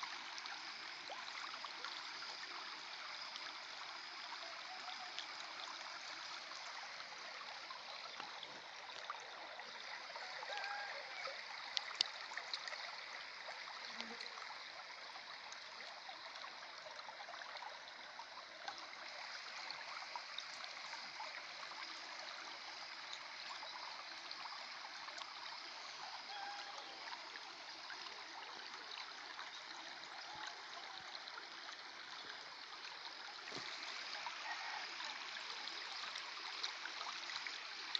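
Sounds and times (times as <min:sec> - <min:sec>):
floodwater running in a channel: 0:00.0 - 0:37.9.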